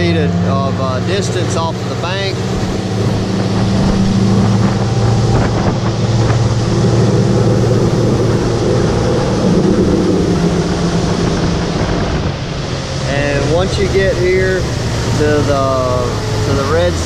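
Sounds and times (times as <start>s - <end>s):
outboard motor running: 0.0s - 17.0s
wind buffeting microphone: 0.0s - 17.0s.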